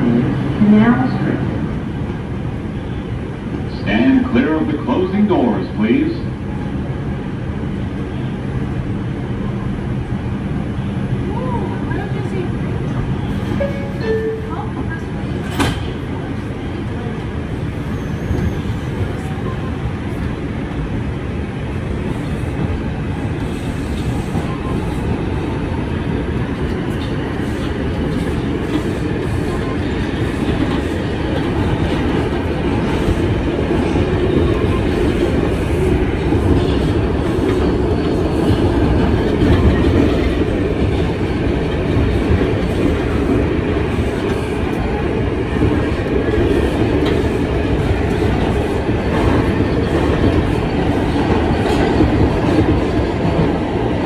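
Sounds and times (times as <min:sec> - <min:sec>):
subway car wheels on rails: 0:00.0 - 0:54.0.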